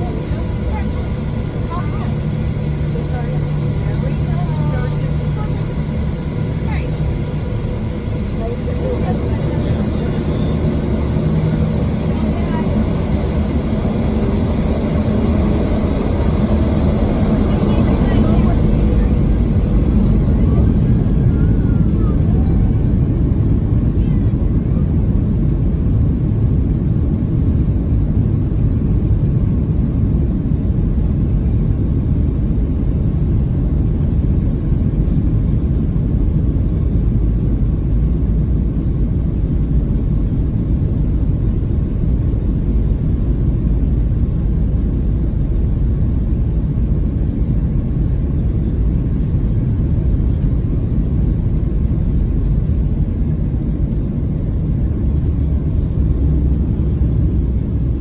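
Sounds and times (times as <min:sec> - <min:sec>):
airliner engines rumbling in cabin: 0:00.0 - 0:58.0.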